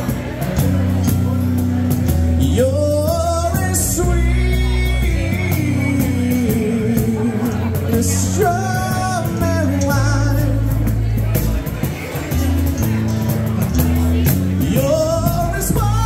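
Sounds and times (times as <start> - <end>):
electric bass: 0.0 - 16.0
strummed acoustic guitar: 0.0 - 16.0.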